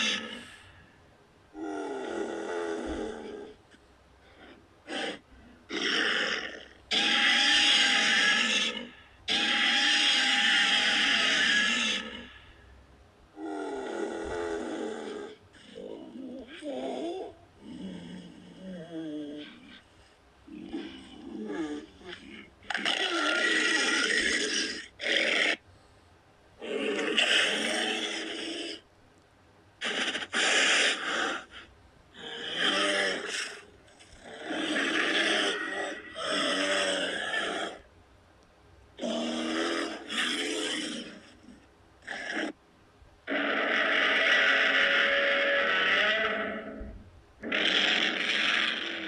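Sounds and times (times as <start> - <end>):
monster roaring: 0.0 - 0.6, 1.6 - 3.6, 4.4 - 12.5, 13.4 - 19.8, 20.5 - 25.6, 26.6 - 28.8, 29.8 - 31.6, 32.2 - 37.8, 39.0 - 42.6, 43.2 - 49.0
low roar: 0.0 - 0.7, 1.5 - 3.6, 4.2 - 12.6, 13.4 - 19.8, 20.5 - 25.6, 29.8 - 37.9, 39.0 - 42.6, 43.2 - 49.0.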